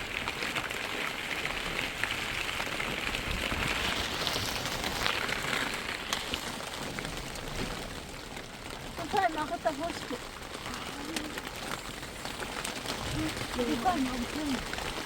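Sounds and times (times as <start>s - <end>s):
rain drops ticking on surface: 0.0s - 15.0s.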